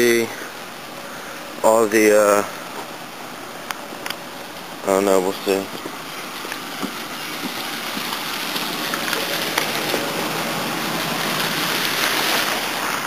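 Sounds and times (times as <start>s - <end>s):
rain on wet asphalt: 0.0s - 13.0s.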